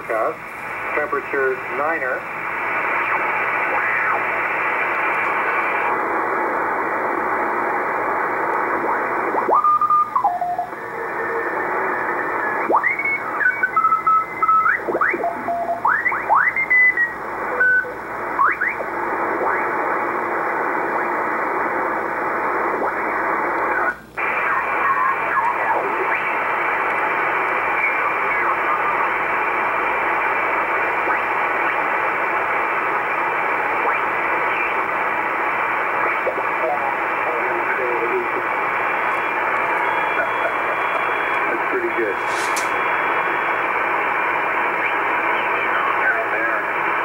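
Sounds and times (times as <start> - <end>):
radio band noise hiss: 0.0 - 47.0.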